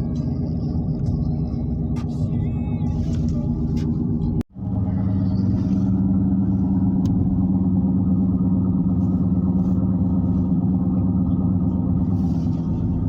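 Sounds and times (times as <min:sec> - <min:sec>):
car driving interior: 0:00.0 - 0:13.0
low droning wheel hum: 0:00.0 - 0:13.0.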